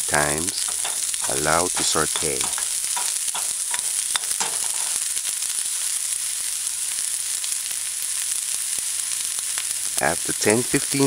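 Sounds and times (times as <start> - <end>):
onions sizzling in a skillet: 0.0 - 11.0.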